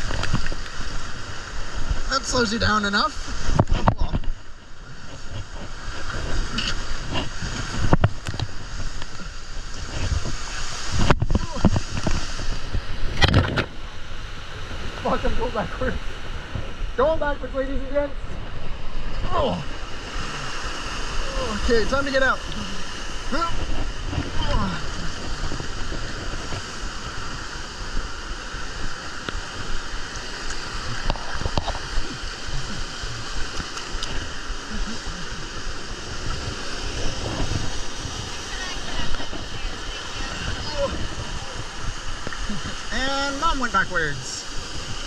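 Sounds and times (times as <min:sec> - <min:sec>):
water churning and rushing: 0:00.0 - 0:45.0.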